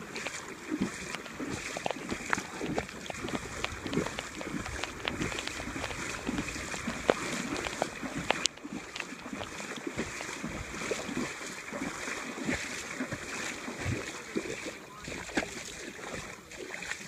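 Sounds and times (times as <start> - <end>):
river current rushing: 0.0 - 16.6
water sloshing and splashing: 0.0 - 17.0.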